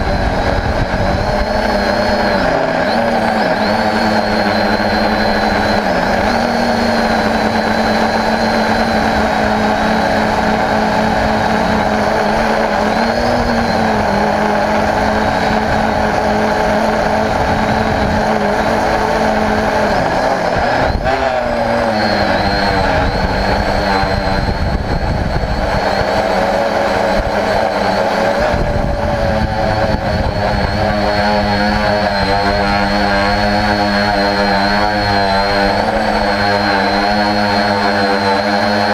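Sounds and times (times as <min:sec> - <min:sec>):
drone motors and propellers whining: 0:00.0 - 0:38.9.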